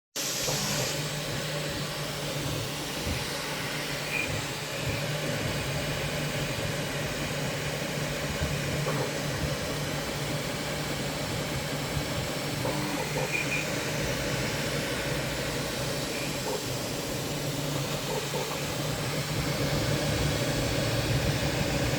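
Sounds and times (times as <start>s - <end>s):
printer low hum and whirring: 0.2s - 21.9s.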